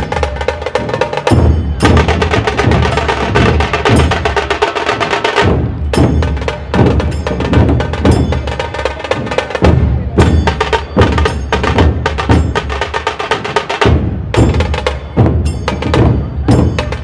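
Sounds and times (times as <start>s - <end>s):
barrel drums beating low rhythm: 0.0s - 17.0s
fast sharp drum strokes: 0.0s - 17.0s.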